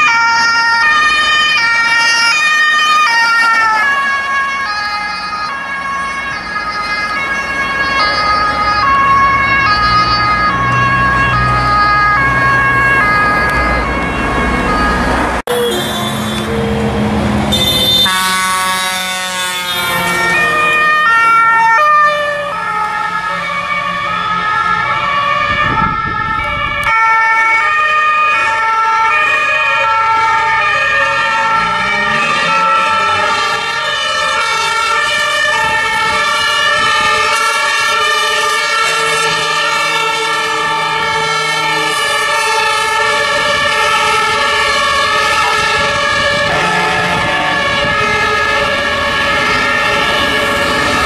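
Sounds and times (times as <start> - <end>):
road traffic noise: 0.0 - 51.0
two-tone emergency sirens: 0.0 - 51.0.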